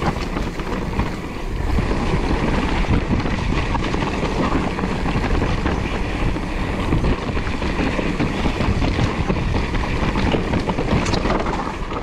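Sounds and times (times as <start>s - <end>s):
bike knocks and rattles: 0.0s - 12.0s
tyres rolling over dirt: 0.0s - 12.0s
wind buffeting microphone: 0.0s - 12.0s.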